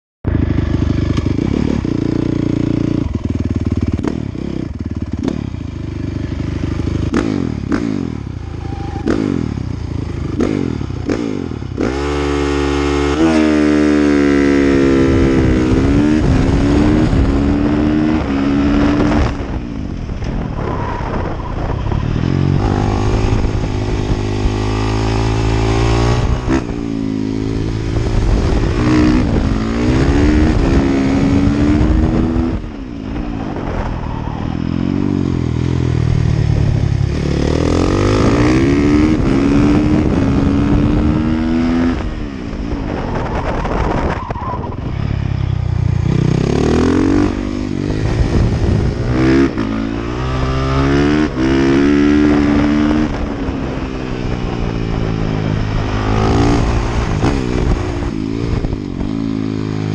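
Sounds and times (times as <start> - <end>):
motorcycle engine revving: 0.3 - 59.9.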